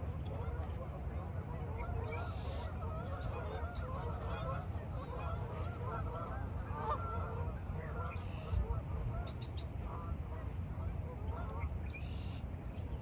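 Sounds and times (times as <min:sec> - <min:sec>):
constant low rumble: 0:00.0 - 0:13.0
geese honking: 0:01.5 - 0:12.4.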